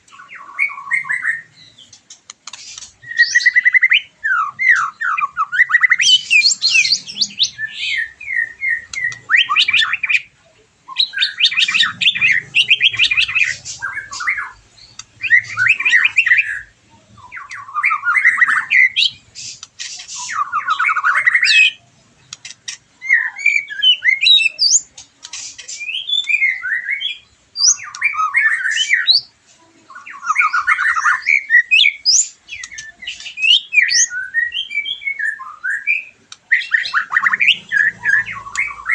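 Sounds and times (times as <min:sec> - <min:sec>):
bird singing whistles and chatter: 0:00.1 - 0:10.3, 0:10.9 - 0:21.8, 0:22.4 - 0:38.9.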